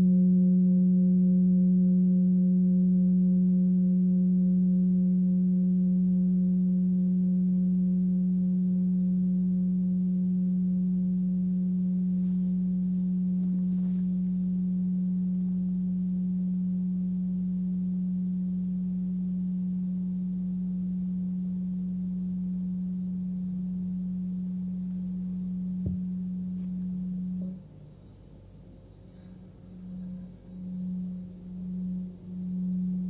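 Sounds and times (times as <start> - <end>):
singing bowl ringing: 0.0 - 33.0.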